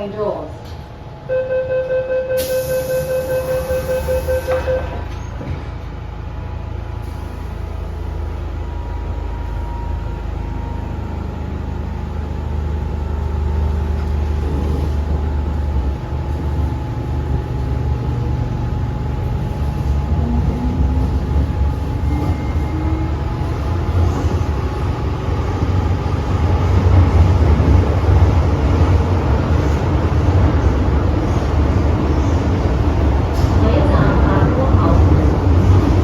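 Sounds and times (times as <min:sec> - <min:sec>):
train motor hum: 0:02.3 - 0:36.0
train wheels rumbling on rail: 0:02.4 - 0:36.0.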